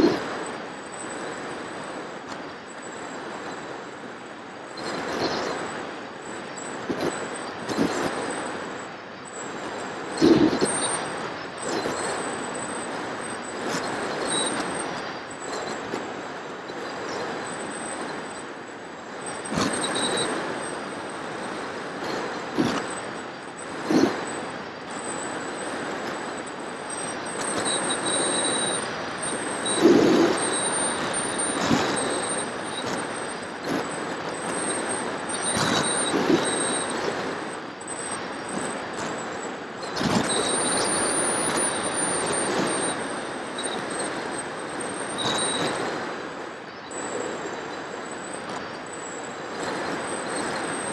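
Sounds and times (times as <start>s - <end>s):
wind gusts buffeting microphone: 0.0s - 50.9s
wind rush over microphone: 0.0s - 50.9s.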